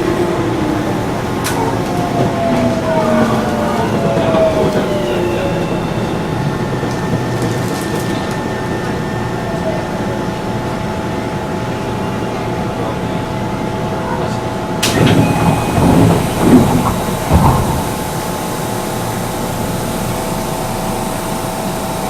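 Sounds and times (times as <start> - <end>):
electric train inverter whine: 0.0 - 22.0
wheel and rail rumble: 0.0 - 22.0.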